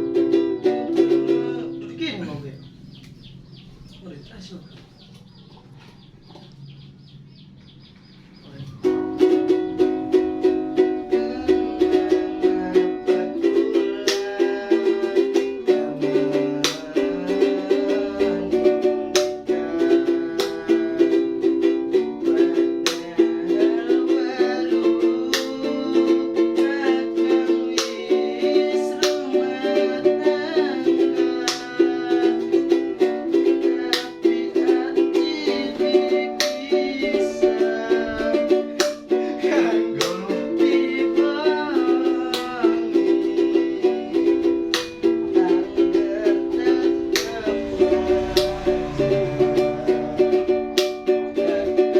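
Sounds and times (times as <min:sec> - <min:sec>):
plucked ukulele-like music: 0:00.0 - 0:03.4, 0:08.6 - 0:51.9.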